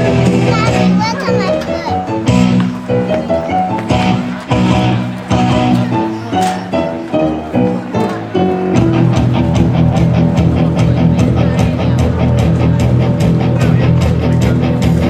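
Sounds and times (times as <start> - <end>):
rock music with guitar and beat: 0.0 - 15.0.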